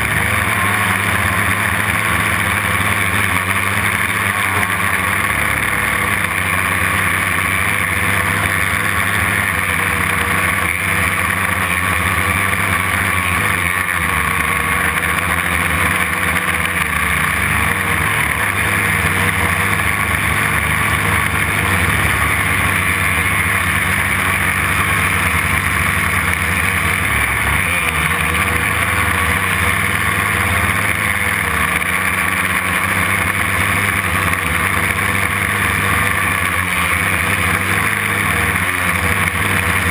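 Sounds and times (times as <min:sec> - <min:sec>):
quadcopter motors and propellers: 0:00.0 - 0:39.9.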